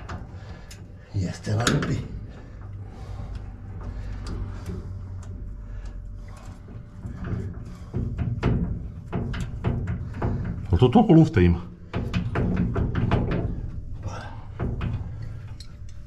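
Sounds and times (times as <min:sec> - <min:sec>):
metal knocks and clanks: 0:00.0 - 0:16.0
steady low hum: 0:00.0 - 0:16.0.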